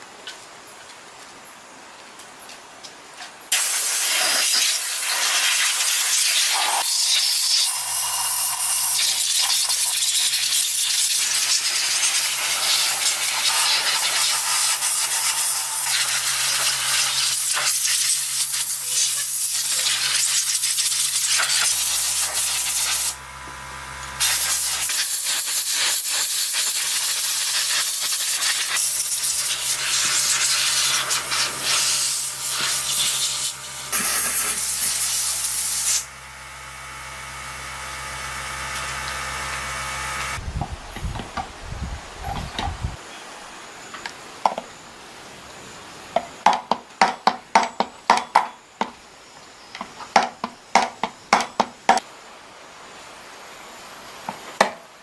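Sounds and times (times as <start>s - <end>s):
loud steady hissing: 0.0s - 55.0s.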